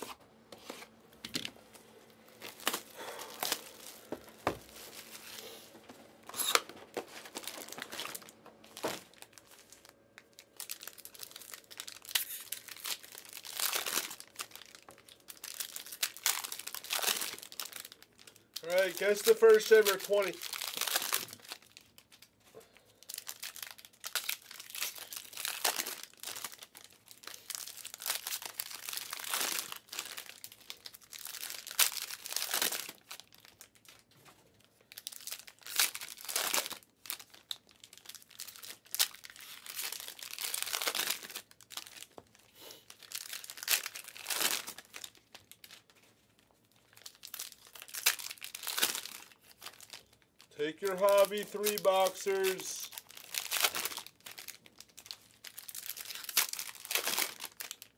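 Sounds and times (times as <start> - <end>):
card pack wrappers crinkling: 0.0 - 57.9.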